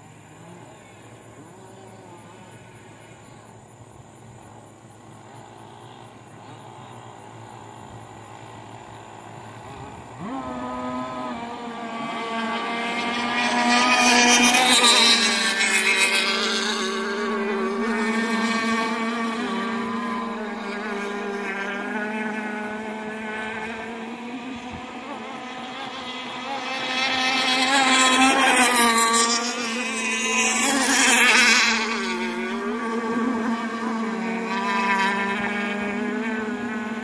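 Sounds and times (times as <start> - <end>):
model boat engines revving: 0.0 - 37.0.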